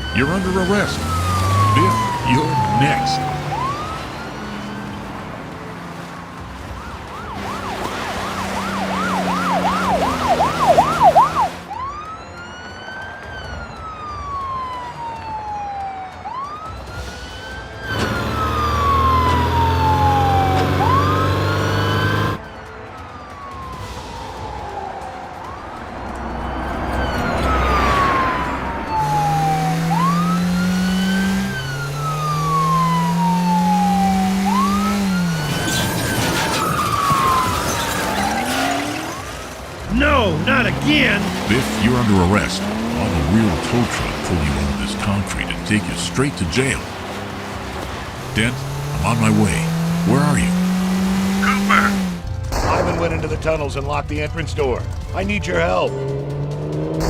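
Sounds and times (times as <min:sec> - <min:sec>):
vehicle engine humming: 0:00.0 - 0:16.5, 0:23.6 - 0:52.6, 0:54.8 - 0:57.0
police siren wailing and yelping: 0:00.0 - 0:22.5, 0:23.1 - 0:47.0, 0:48.2 - 0:50.6, 0:51.2 - 0:52.3.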